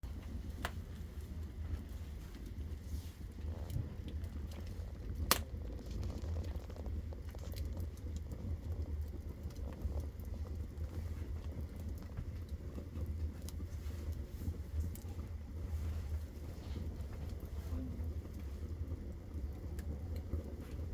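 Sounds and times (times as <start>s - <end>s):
fire crackling: 0.0s - 20.9s
fire rumbling: 0.0s - 20.9s.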